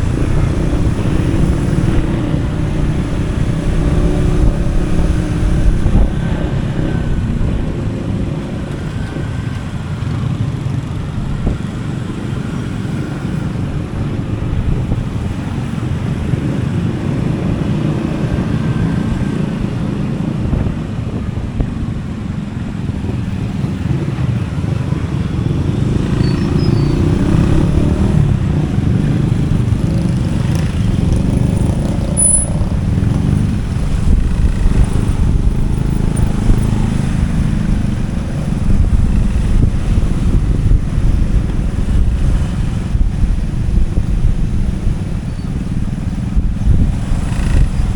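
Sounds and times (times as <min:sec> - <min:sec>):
motorcycle engine running: 0:00.0 - 0:47.9
wind on microphone: 0:00.0 - 0:47.9.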